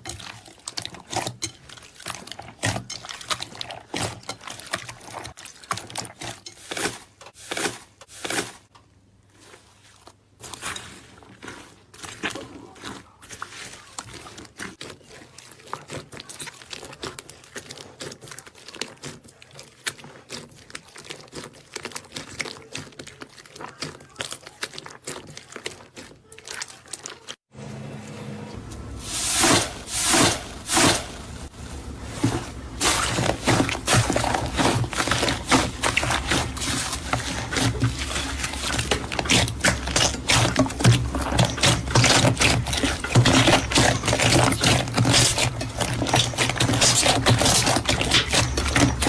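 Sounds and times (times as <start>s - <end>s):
slime squishing: 0.0s - 27.5s, 29.0s - 49.0s.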